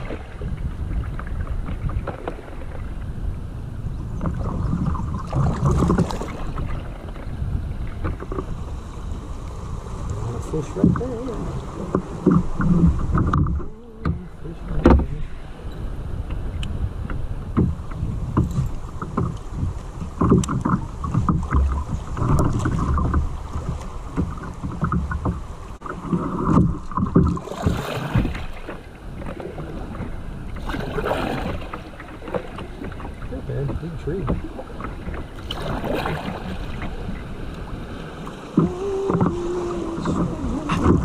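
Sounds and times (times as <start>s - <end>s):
current rushing along hull: 0.0s - 41.0s
paddle blades splashing: 0.0s - 41.0s.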